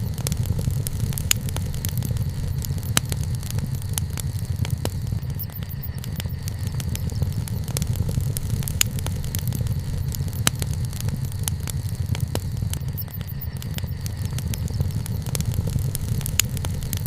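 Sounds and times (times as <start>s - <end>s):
bonfire crackling and popping: 0.0s - 17.0s
low fire rumble: 0.0s - 17.0s.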